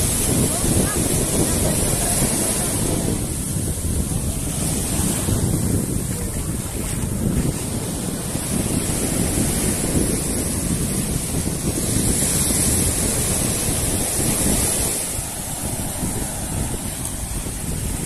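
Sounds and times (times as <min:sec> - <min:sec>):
small waves breaking on sand: 0:00.0 - 0:18.0
wind buffeting microphone: 0:00.0 - 0:18.0.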